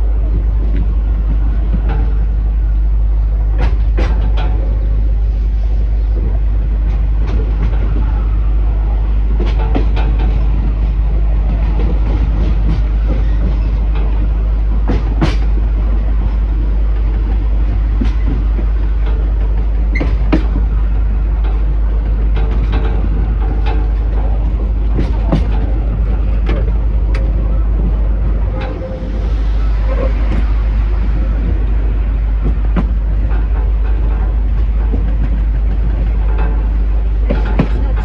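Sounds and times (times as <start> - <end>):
train rumbling along track: 0.0 - 38.0
wheels and couplings clanking: 0.0 - 38.0.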